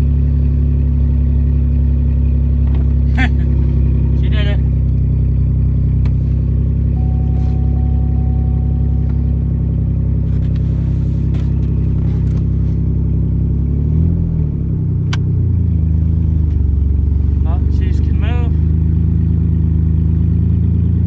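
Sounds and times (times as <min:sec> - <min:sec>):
rough car engine running: 0:00.0 - 0:21.0.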